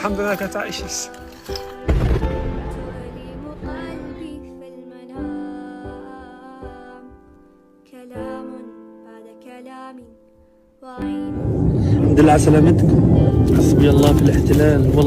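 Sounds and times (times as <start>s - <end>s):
slow soft background music: 0.0s - 15.0s.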